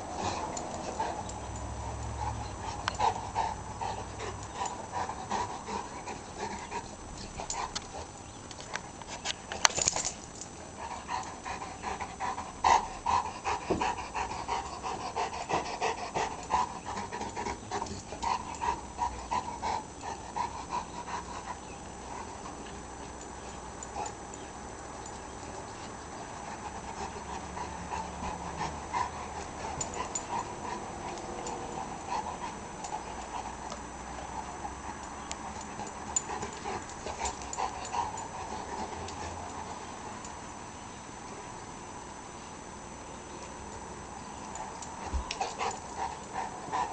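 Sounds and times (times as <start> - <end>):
puppy panting: 0.0 - 9.6, 10.7 - 40.3, 44.5 - 46.9.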